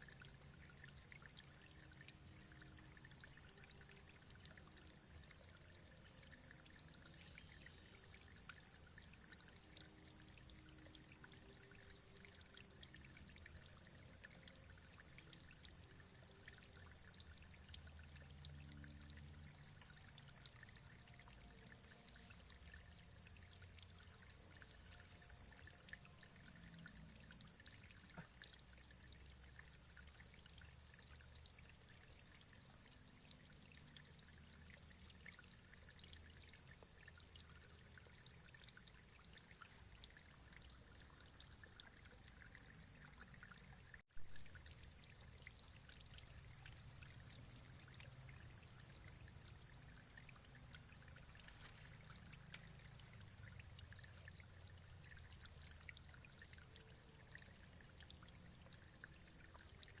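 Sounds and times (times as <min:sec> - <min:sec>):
trickling running water: 0:00.0 - 1:00.0.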